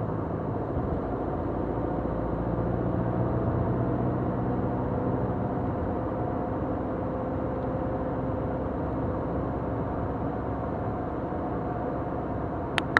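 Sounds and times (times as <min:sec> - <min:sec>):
car engine and tyre noise: 0:00.0 - 0:12.9.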